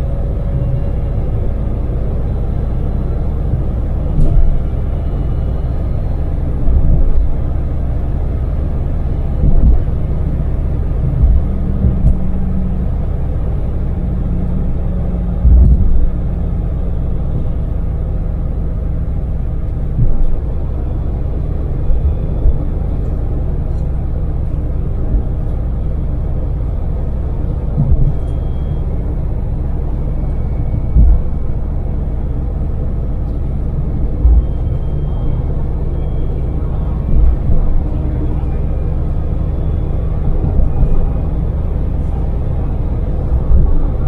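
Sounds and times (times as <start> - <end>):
low thumps: 0.0 - 17.5, 19.2 - 25.6, 27.6 - 44.0
engine hum and tyre rumble: 0.0 - 44.0.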